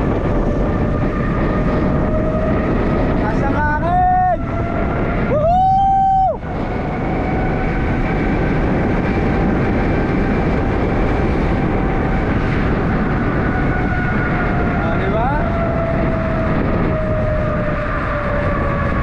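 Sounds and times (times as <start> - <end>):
road noise: 0.0 - 19.0
wind rushing over microphone: 0.0 - 19.0.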